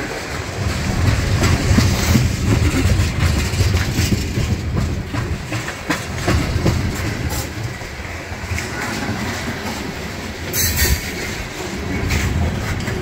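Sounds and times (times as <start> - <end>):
train cars clicking and clunking: 0.0 - 13.0
train wheels rumbling on rail: 0.0 - 13.0.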